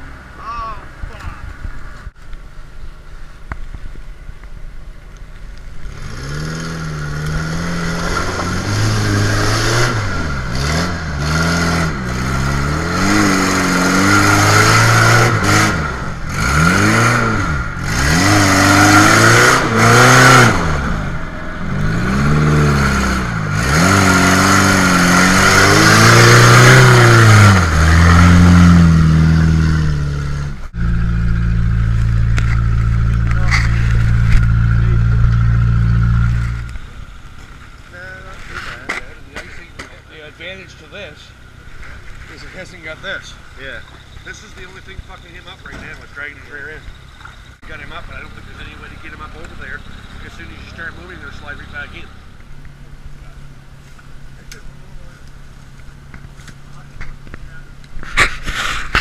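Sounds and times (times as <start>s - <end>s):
car engine revving: 5.7s - 59.0s.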